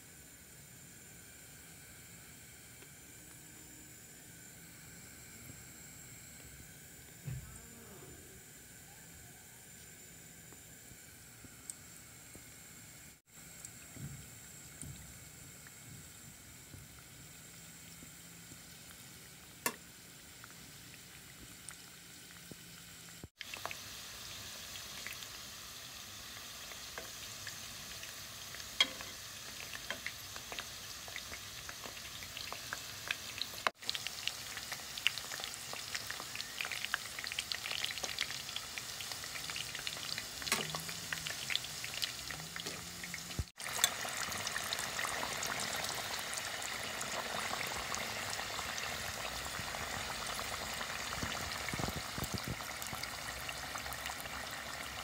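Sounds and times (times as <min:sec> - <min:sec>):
food deep-frying in oil: 0:00.0 - 0:07.6, 0:08.4 - 0:55.0.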